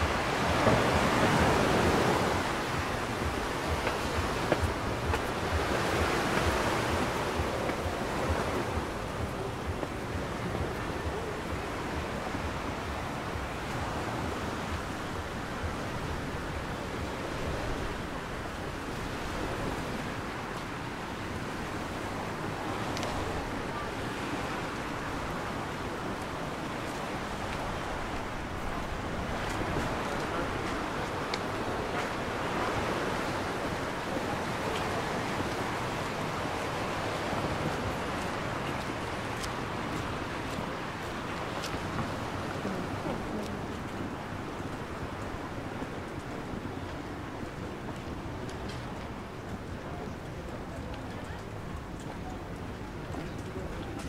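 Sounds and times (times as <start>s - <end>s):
steady outdoor noise: 0.0s - 54.0s.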